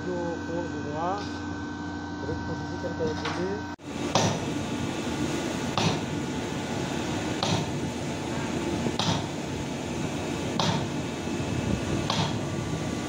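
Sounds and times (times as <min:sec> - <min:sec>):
excavator engine and hydraulics: 0:01.8 - 0:13.0.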